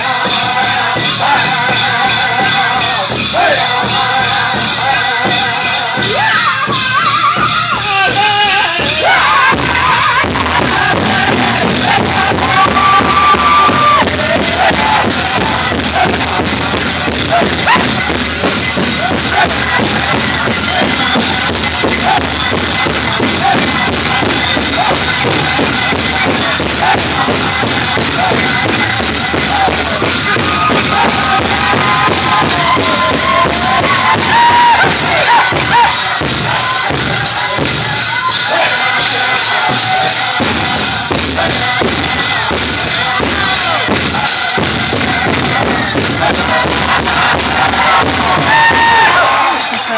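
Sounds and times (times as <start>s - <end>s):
group singing: 0.0s - 49.9s
pounding drumbeat: 0.0s - 49.9s.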